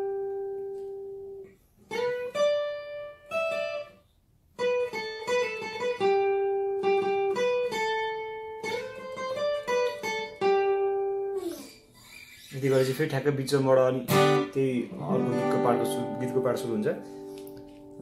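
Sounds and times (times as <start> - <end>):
acoustic guitar lead line: 0.0 - 18.0.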